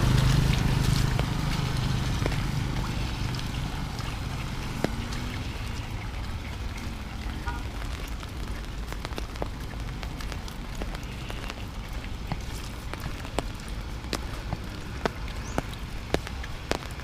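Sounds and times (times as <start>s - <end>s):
raindrops ticking: 0.0s - 17.0s
steady rain: 0.0s - 17.0s.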